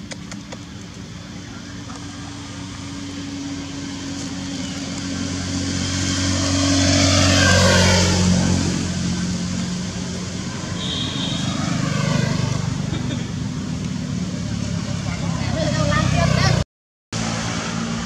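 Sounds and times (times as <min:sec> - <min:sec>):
vehicle passing by: 0:01.5 - 0:16.6, 0:17.2 - 0:18.0.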